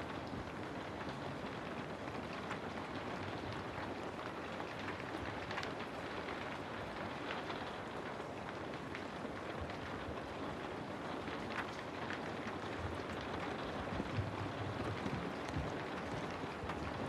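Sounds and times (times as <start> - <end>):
raindrops ticking: 0.0 - 17.0.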